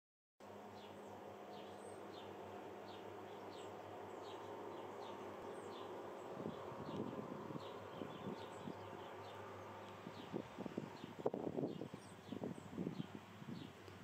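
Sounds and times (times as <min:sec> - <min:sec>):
low buzzing hum: 0:00.4 - 0:14.0.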